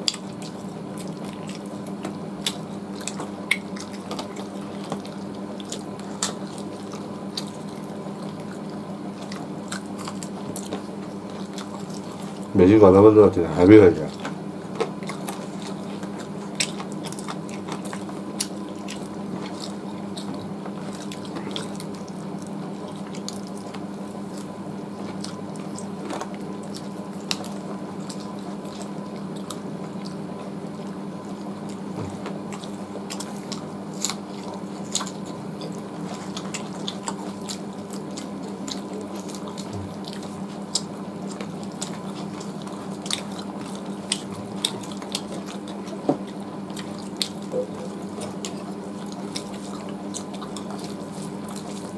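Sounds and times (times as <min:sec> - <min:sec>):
chewing and tearing meat: 0:00.0 - 0:51.9
low background hum: 0:00.0 - 0:51.9.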